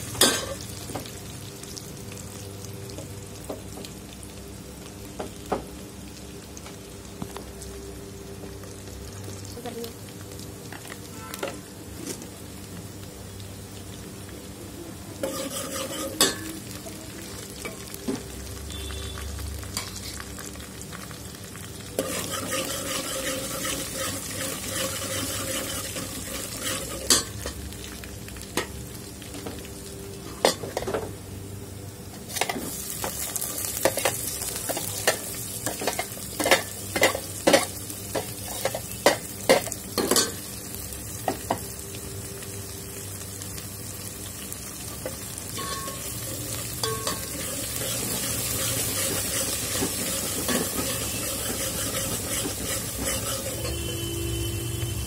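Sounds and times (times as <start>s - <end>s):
oil sizzling in a pot: 0.0s - 55.0s.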